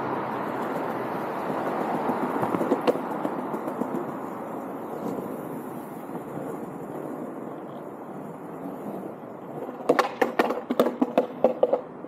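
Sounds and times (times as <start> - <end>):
skateboard wheels rumbling on pavement: 0.0 - 12.0
wheels clacking over paving joints: 0.0 - 12.0.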